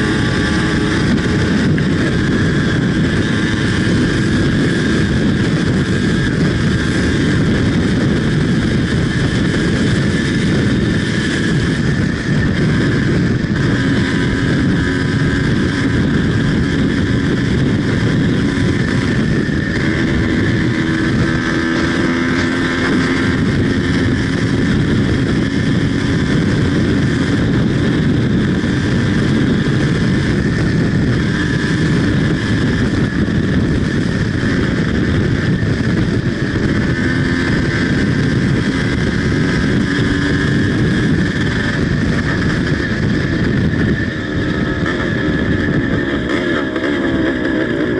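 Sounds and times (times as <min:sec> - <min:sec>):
motorcycle engine running hard: 0:00.0 - 0:47.9
wind rushing over microphone: 0:00.0 - 0:47.9.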